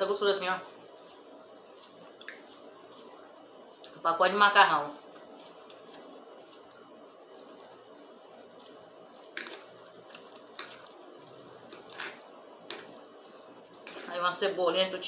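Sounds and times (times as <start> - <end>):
wet chewing: 1.0 - 4.0, 5.0 - 14.1.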